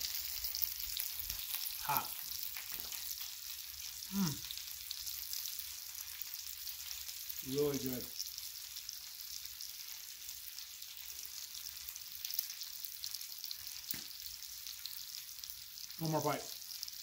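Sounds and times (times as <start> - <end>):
meat sizzling on a griddle: 0.0 - 17.0.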